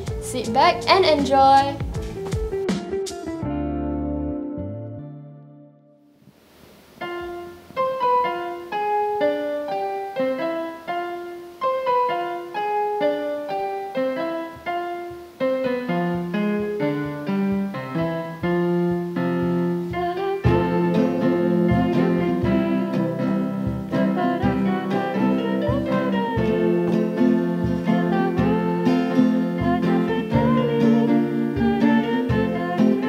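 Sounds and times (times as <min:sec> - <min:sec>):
electronic keyboard piano melody: 0:00.0 - 0:06.1, 0:07.0 - 0:33.0
earlier music: 0:00.0 - 0:33.0.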